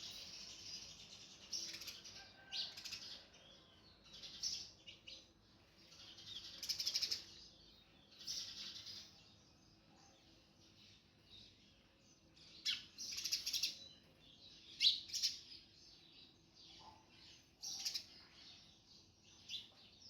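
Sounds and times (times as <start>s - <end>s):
bird chirps and twitters: 0.0s - 3.3s, 3.9s - 20.0s.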